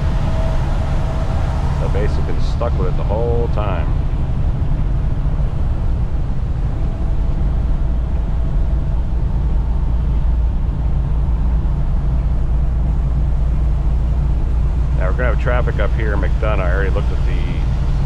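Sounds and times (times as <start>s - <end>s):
road noise: 0.0s - 18.0s
truck diesel engine drone: 0.0s - 18.0s.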